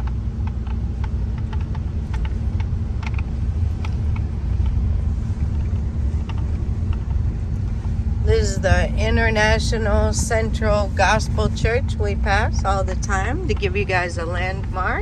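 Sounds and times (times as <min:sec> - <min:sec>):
car engine and tyre rumble: 0:00.0 - 0:15.0
light ticks and rattles: 0:00.0 - 0:15.0.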